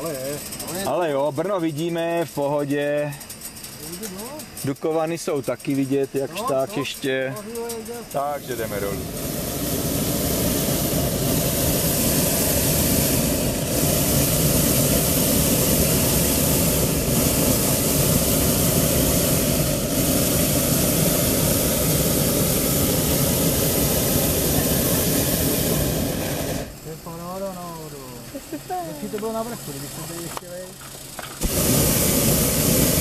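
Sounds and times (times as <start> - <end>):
propane burner roaring: 0.0 - 33.0.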